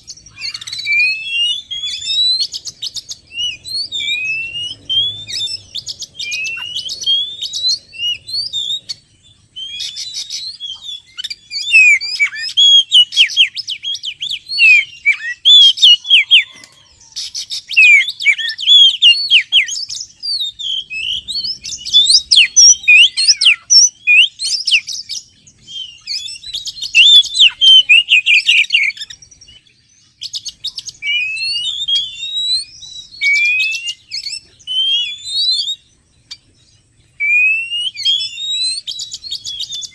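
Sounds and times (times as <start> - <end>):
songbird singing whistled phrases: 0.0 - 39.9.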